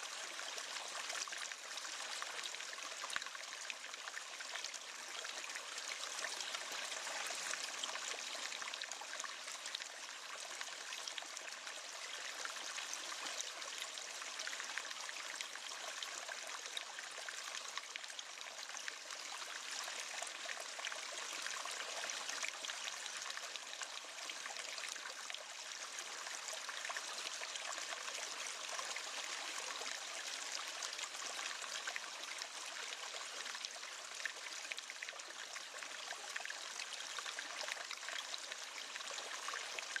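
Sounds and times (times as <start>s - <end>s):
river water flowing and babbling: 0.0s - 40.0s.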